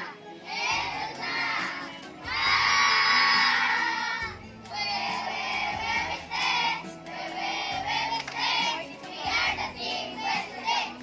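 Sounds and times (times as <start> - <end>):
children singing together: 0.0 - 11.0
recorded backing music: 0.0 - 11.0.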